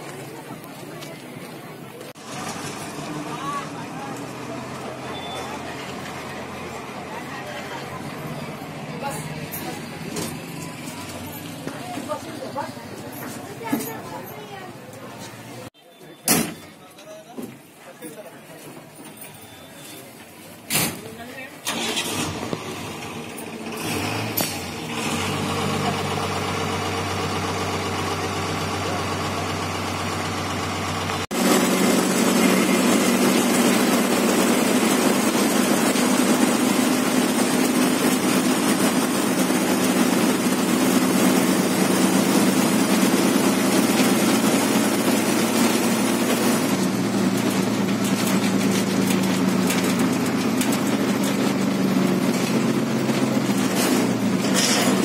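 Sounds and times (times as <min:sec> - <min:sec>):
bus engine drone: 0:00.0 - 0:13.9, 0:21.6 - 0:55.0
road noise: 0:00.0 - 0:55.0.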